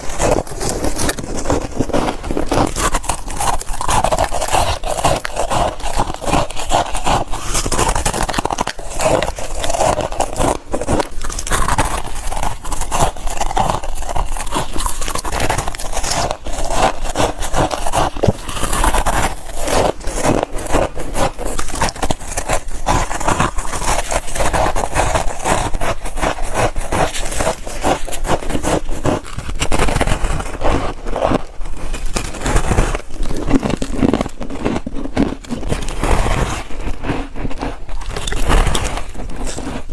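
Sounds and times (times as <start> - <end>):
crunching frost: 0.0 - 39.9.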